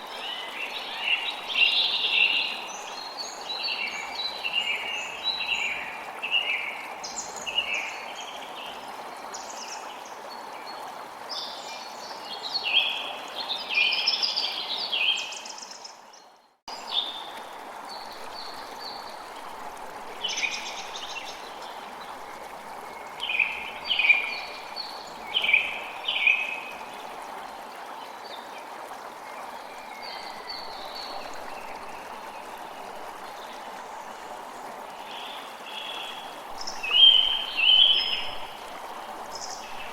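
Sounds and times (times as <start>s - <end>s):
flowing water rushing: 0.0s - 16.1s, 16.7s - 39.9s.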